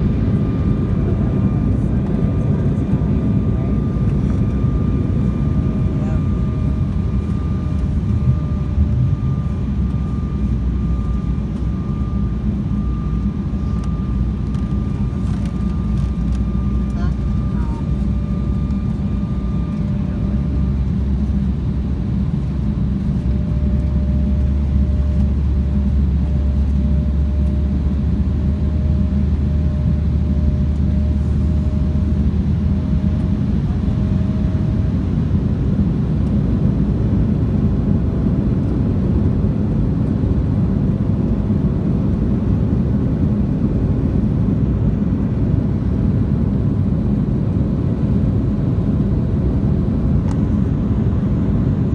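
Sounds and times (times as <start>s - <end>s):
jet engines roaring in cabin: 0.0s - 51.9s.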